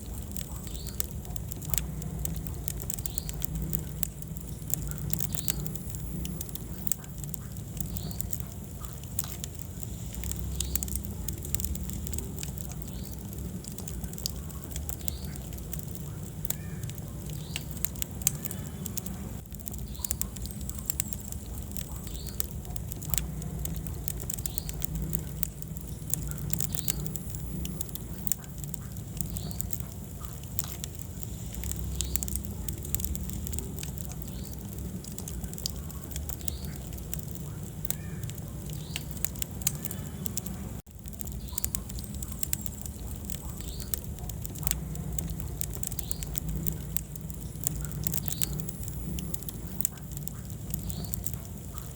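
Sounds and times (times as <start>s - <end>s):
logs crackling and popping: 0.0s - 51.9s
low rumble of flames: 0.0s - 51.9s.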